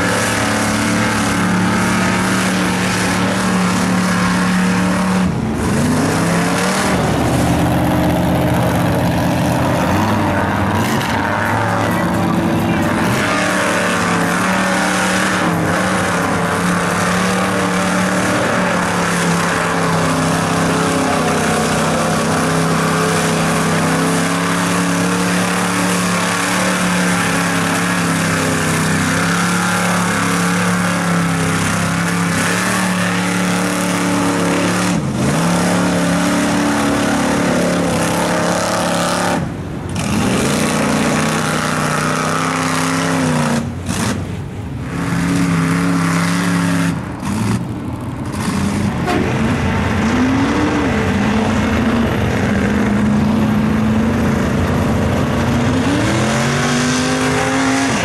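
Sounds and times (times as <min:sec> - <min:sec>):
truck engine revving hard: 0:00.0 - 0:58.0.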